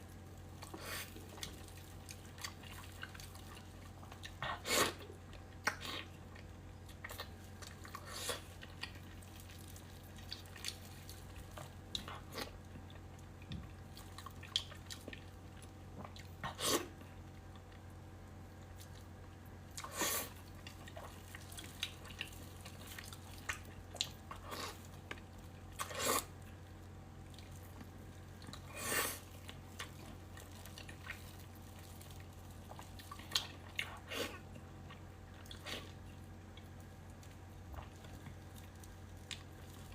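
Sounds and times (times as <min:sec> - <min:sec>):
faint steady hum: 0:00.0 - 0:39.9
person chewing: 0:00.4 - 0:17.9, 0:18.8 - 0:39.9.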